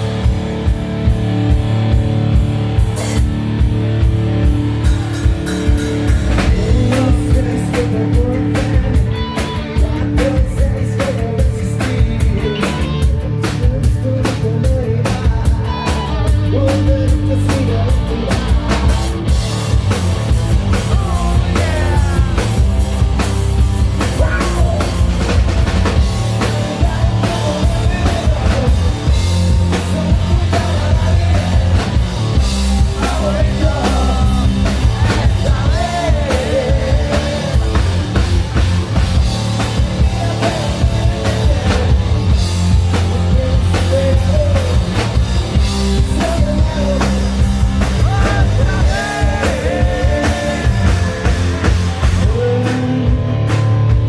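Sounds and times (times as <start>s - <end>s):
drum kit driving beat: 0.0s - 54.0s
electric guitars: 0.0s - 54.0s.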